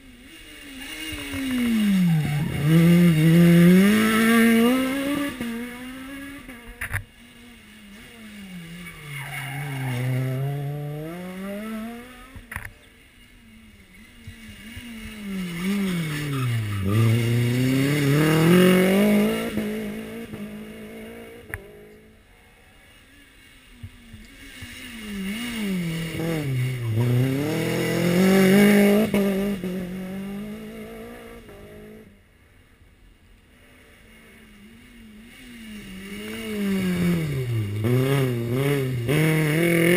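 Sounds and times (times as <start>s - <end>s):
rally car engines passing: 0.0s - 39.9s.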